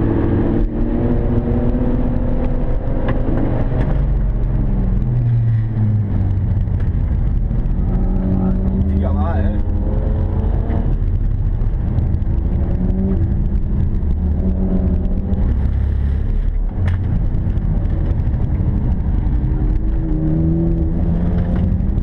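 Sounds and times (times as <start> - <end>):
car engine under load: 0.0 - 22.0.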